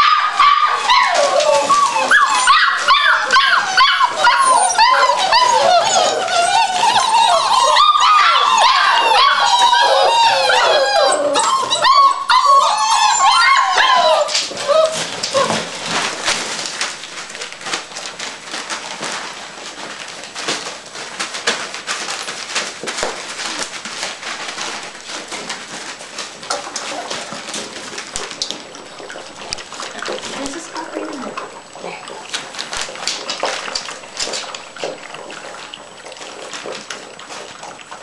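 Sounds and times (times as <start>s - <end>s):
puppies eating from metal bowl: 0.0s - 38.0s
puppies whining and yelping: 0.0s - 38.0s.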